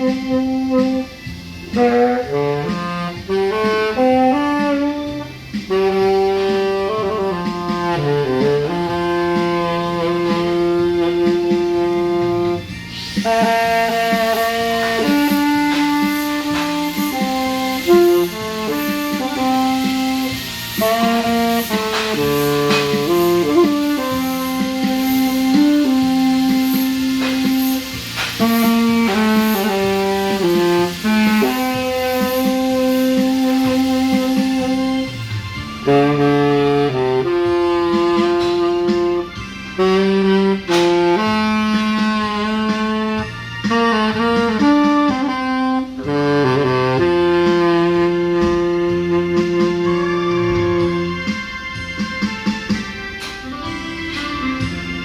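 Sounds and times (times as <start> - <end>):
backing accompaniment: 0.0 - 55.0
saxophone melody: 0.0 - 55.0.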